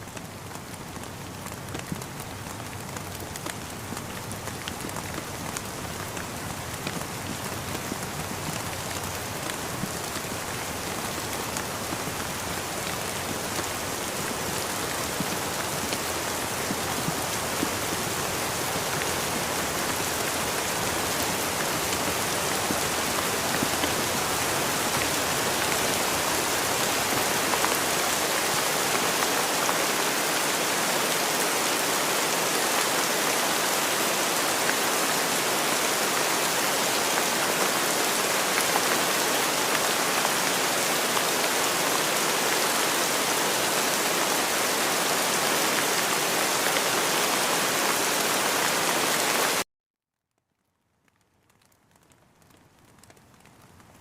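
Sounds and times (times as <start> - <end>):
steady rain hiss: 0.0 - 49.6, 50.9 - 54.0.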